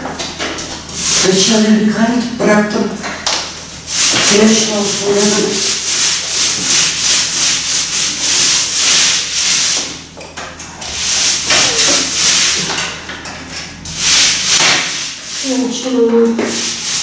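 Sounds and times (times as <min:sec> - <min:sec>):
paint roller on wall: 0:00.0 - 0:01.9, 0:02.6 - 0:17.0.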